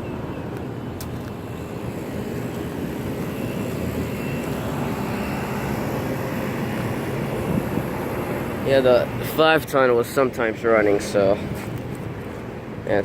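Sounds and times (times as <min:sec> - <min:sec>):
air conditioning units droning: 0:00.0 - 0:13.0.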